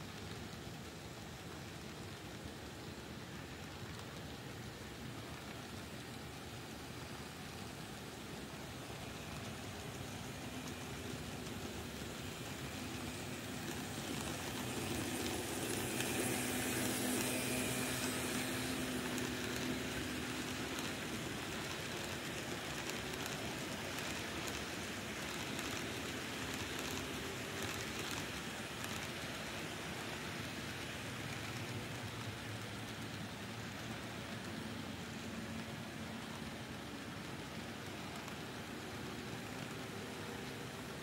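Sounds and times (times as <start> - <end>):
model trains whirring on rails: 0.0 - 41.0.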